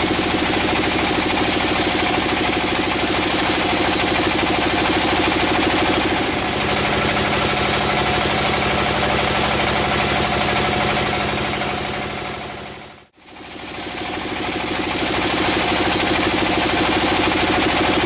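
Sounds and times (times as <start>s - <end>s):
band sawmill cutting log: 0.0s - 18.0s.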